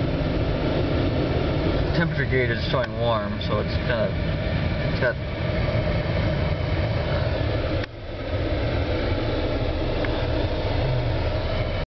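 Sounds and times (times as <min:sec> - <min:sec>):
car engine idling: 0:00.0 - 0:11.8
climate control blower rushing: 0:00.0 - 0:11.8.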